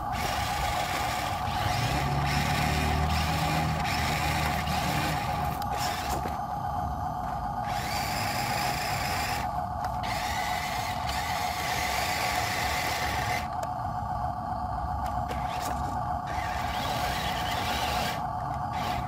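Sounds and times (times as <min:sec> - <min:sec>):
small electric motor whining: 0:00.0 - 0:14.0, 0:14.9 - 0:19.0.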